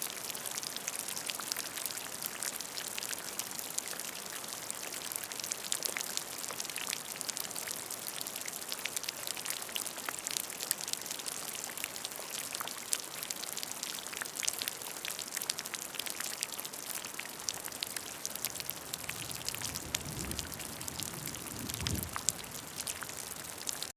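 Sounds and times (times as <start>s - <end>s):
rain drops hitting a surface: 0.0s - 23.9s.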